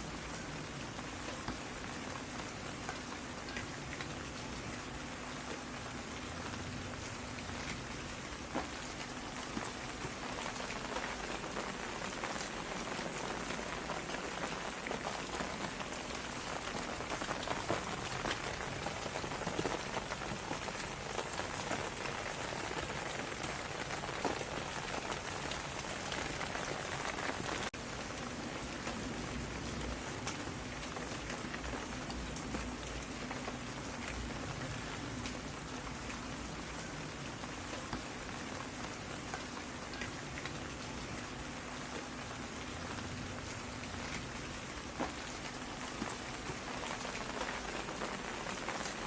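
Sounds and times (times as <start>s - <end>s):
raindrops striking a surface: 0.0s - 49.0s
steady rain hiss: 0.0s - 49.0s.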